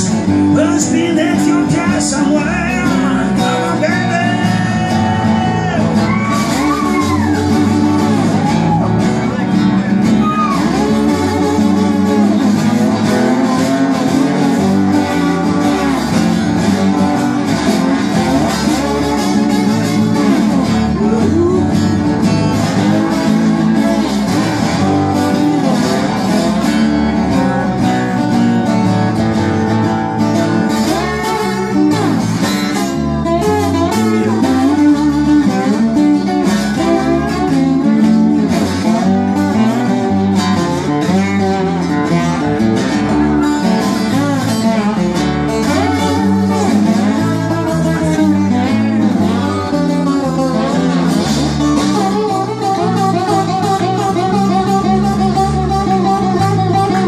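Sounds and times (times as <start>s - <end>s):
electric bass guitar: 0.0s - 57.0s
slide acoustic guitar: 0.0s - 57.0s.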